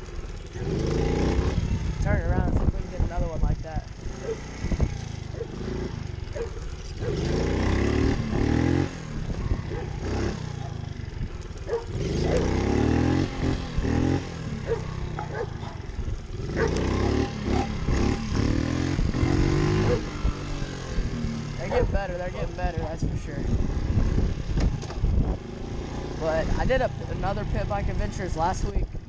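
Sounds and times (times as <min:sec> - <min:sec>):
pit bike engine revving: 0:00.0 - 0:29.0.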